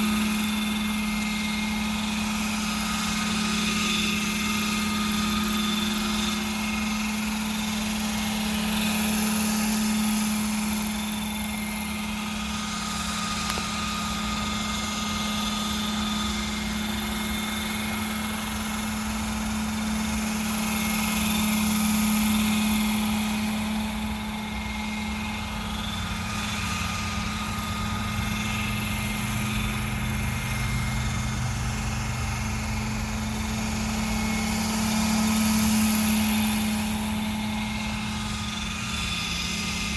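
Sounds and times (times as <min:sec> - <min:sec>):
model helicopter drone: 0:00.0 - 0:39.9.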